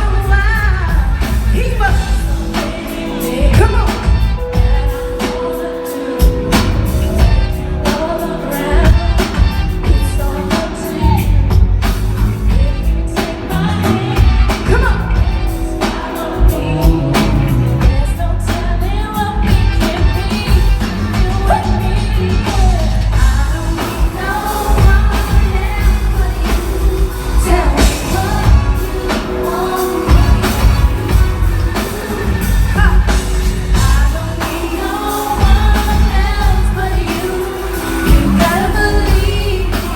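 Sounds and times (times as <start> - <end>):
backing band playing: 0.0 - 39.9
heavy bass beat and drums: 0.0 - 39.9
singers: 0.0 - 39.9.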